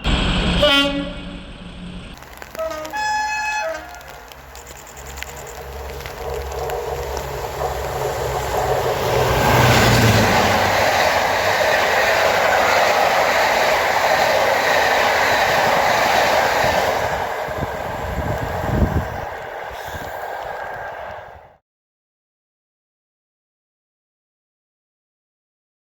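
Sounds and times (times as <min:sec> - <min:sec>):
low train drone: 0:00.0 - 0:21.6
train wheels rushing on rails: 0:00.0 - 0:21.6.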